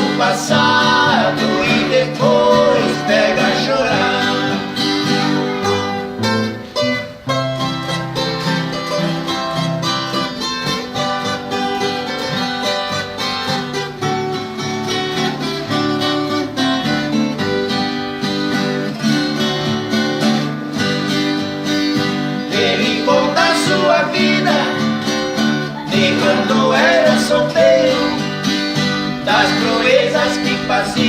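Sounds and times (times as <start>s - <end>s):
plucked acoustic strings melody: 0.0s - 31.0s
strummed guitar accompaniment: 0.0s - 31.0s.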